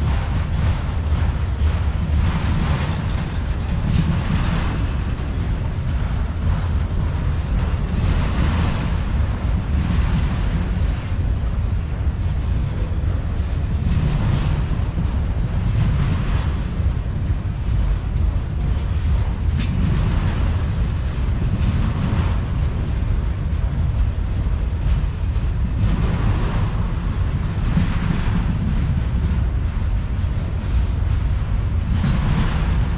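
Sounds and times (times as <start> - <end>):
freight cars rumbling on rails: 0.0 - 32.9
wind buffeting microphone: 0.0 - 32.9.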